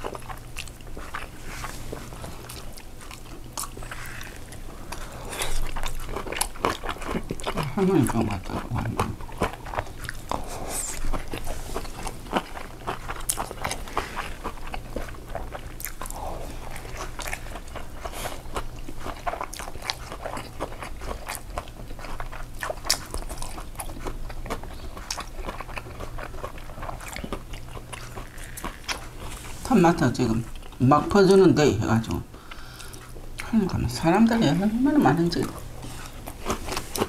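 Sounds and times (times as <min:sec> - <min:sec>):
chewing and crunching food: 0:00.0 - 0:37.0
steady low hum: 0:00.0 - 0:37.0.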